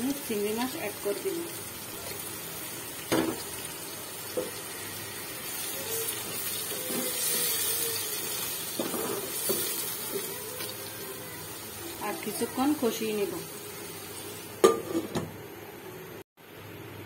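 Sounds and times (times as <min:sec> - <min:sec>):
shrimp sizzling in hot oil: 0:00.0 - 0:15.2.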